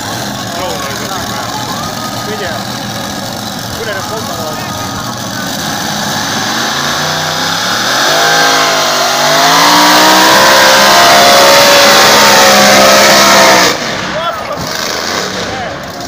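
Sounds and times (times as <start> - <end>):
tractor engine revving hard: 0.0 - 16.0.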